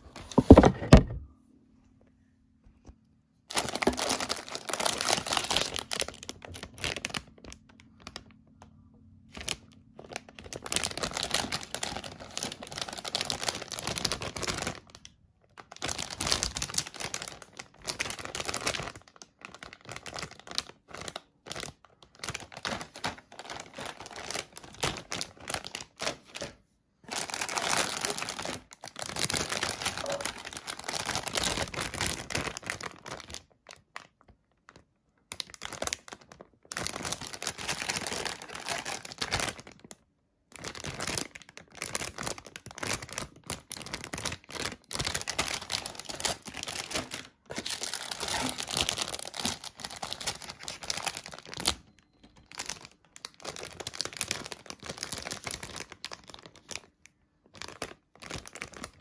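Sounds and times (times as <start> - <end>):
plastic bags crinkling: 3.5 - 8.6, 9.3 - 59.0.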